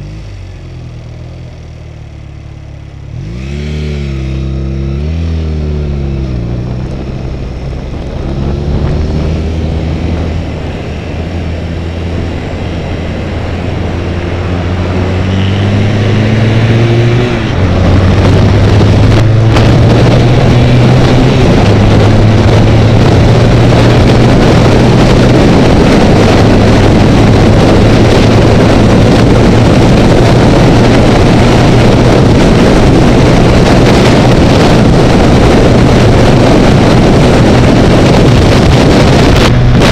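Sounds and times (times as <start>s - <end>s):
motorcycle engine revving: 0.0s - 39.9s
wind noise: 3.0s - 39.9s.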